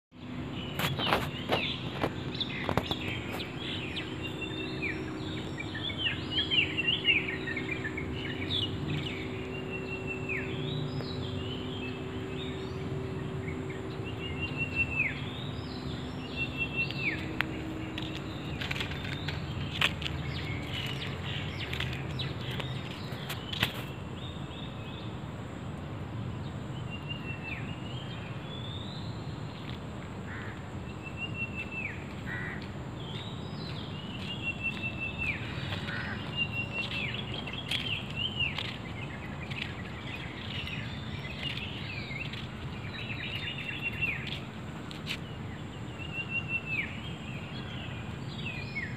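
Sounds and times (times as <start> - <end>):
outdoor background noise: 0.1 - 48.9
small birds chirping: 0.2 - 25.2, 26.5 - 48.9.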